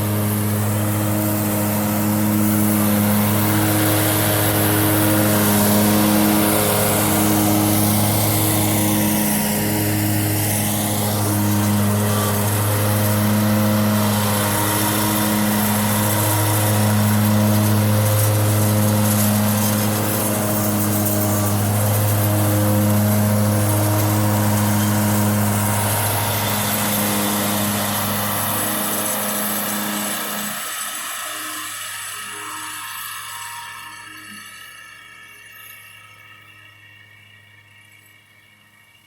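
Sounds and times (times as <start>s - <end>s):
riding mower engine running: 0.0s - 32.4s.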